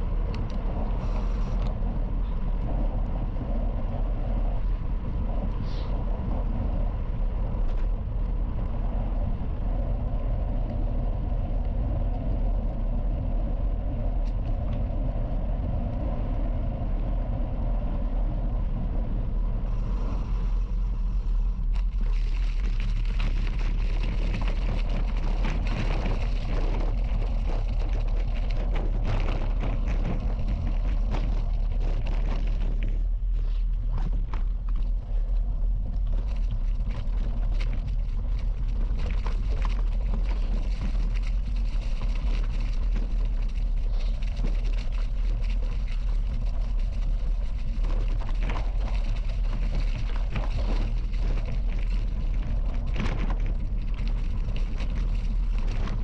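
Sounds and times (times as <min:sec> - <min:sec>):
bicycle tyres on gravel: 0:00.0 - 0:56.0
wind on microphone: 0:00.0 - 0:56.0.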